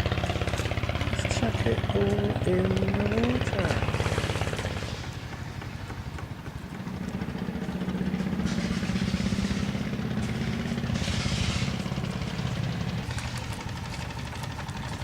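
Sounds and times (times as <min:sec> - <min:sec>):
ferry engine pulsing drone: 0:00.0 - 0:15.0.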